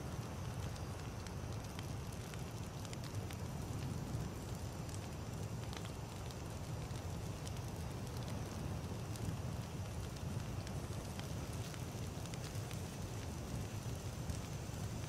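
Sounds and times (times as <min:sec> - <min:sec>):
campfire rumble: 0:00.0 - 0:15.0
wood crackling and popping: 0:00.0 - 0:15.0.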